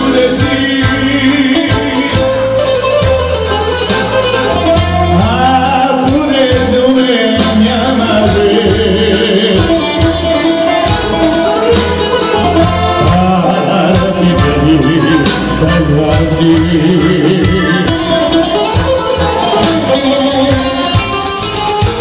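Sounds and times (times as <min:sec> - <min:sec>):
man singing: 0:00.0 - 0:02.8, 0:04.7 - 0:11.6, 0:12.3 - 0:22.0
electric keyboard: 0:00.0 - 0:22.0
guitar: 0:00.0 - 0:22.0
pulsing bass: 0:00.0 - 0:22.0.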